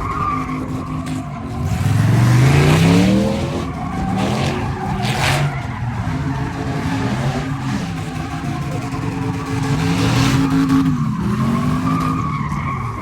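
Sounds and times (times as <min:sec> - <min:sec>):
tire squeal and skidding: 0:00.0 - 0:13.0
truck engine revving: 0:00.0 - 0:13.0.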